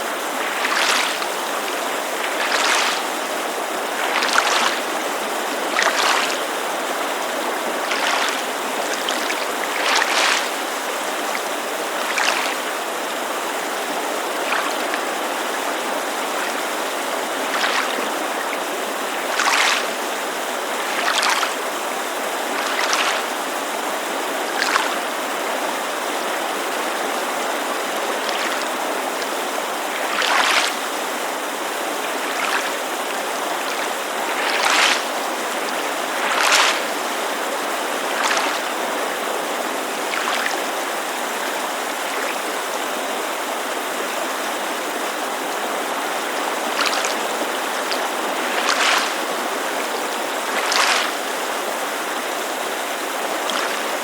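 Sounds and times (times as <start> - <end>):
creek rushing: 0.0 - 54.0
small waves lapping on shore: 0.0 - 54.0.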